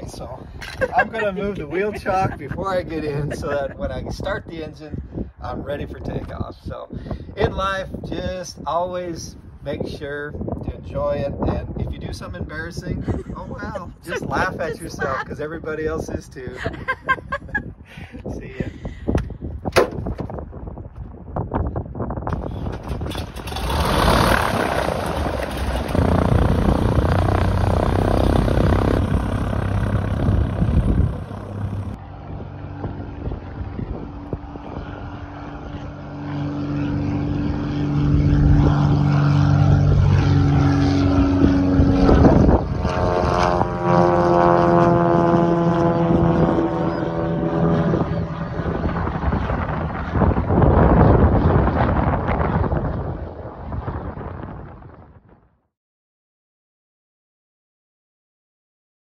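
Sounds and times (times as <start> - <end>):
propeller airplane engine droning: 0.0 - 55.5
wind buffeting microphone: 0.0 - 55.6.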